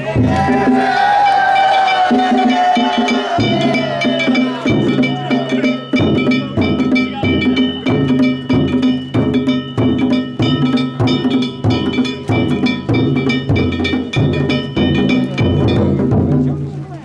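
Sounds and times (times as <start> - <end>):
drums: 0.0 - 17.0
hand gongs striking: 1.9 - 16.4.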